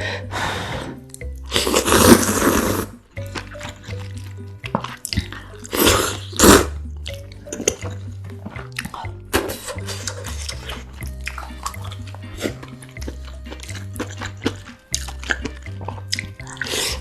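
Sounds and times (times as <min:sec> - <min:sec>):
background music with bass line: 0:00.0 - 0:17.0
wet eating and slurping: 0:01.2 - 0:17.0.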